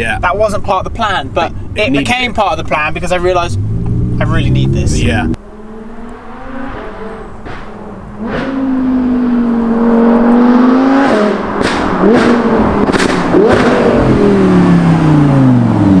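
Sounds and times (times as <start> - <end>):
exhaust cracks on upshifts: 0.4 - 5.4, 6.0 - 16.0
sports car engine accelerating: 2.6 - 16.0.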